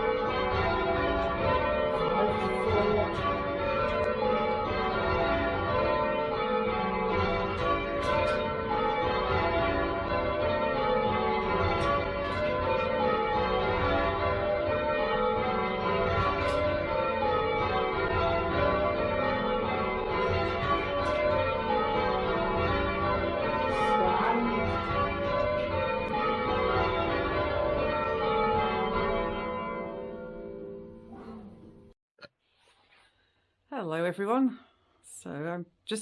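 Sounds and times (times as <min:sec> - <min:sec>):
church bells ringing changes: 0:00.0 - 0:32.0.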